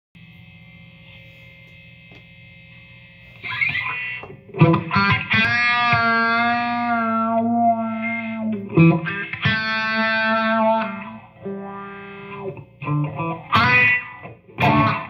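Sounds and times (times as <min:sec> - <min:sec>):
amplifier buzz: 0:00.2 - 0:15.0
distorted electric guitar: 0:00.5 - 0:15.0.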